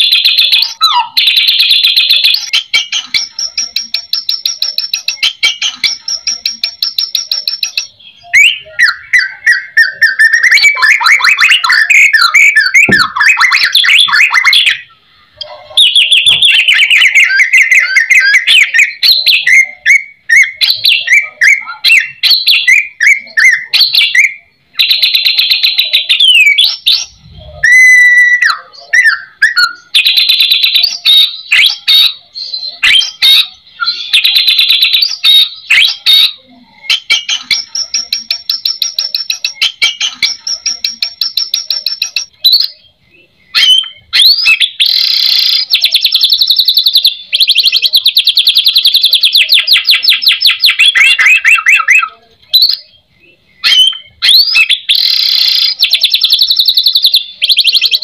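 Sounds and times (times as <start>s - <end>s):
songbird whistling and rattling: 0.0s - 42.9s, 43.5s - 53.0s, 53.6s - 58.0s.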